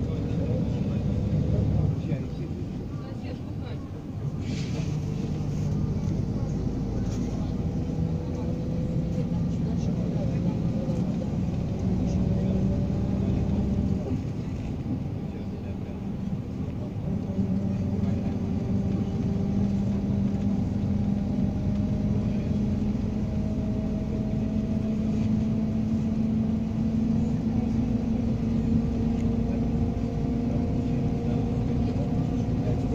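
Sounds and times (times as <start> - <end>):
road noise: 0.0 - 32.9
vehicle engine hum: 0.0 - 32.9.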